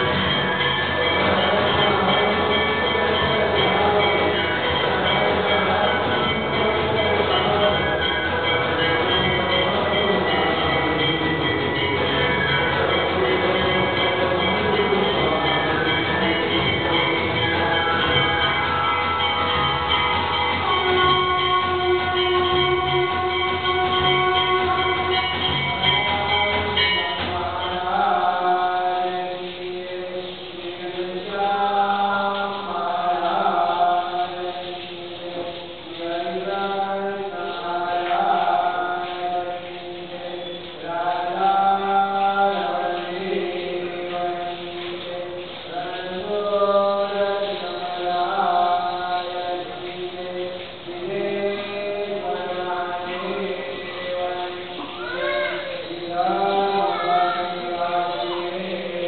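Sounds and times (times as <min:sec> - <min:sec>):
voices chanting: 0:00.9 - 0:59.0.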